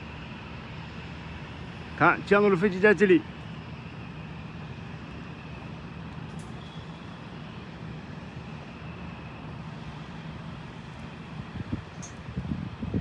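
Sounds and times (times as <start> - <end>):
distant jet engines rumbling: 0.0 - 13.0.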